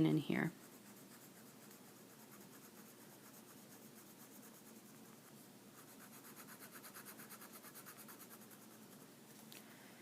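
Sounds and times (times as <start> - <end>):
writing tool scratching paper: 0.5 - 8.8.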